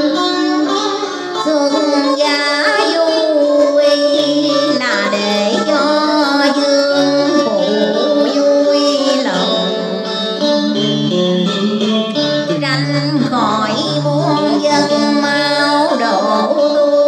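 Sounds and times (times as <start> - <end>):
steady musical accompaniment: 0.0 - 16.4
slow melody with sliding notes: 0.0 - 17.0.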